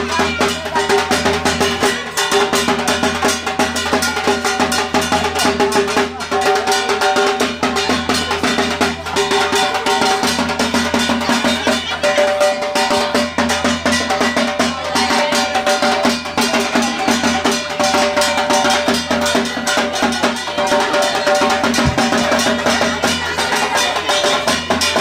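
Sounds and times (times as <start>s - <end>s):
fast barrel drum drumming: 0.0s - 25.0s.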